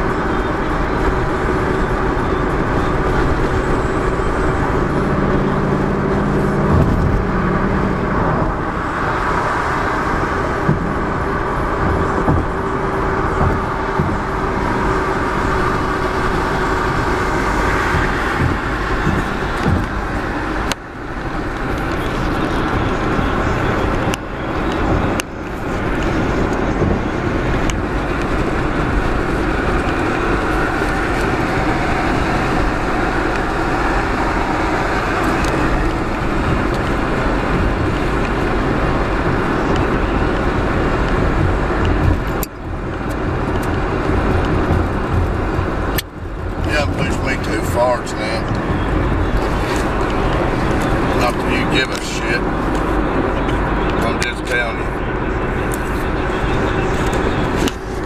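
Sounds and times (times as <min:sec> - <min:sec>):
car cabin road and engine noise: 0:00.0 - 0:58.0.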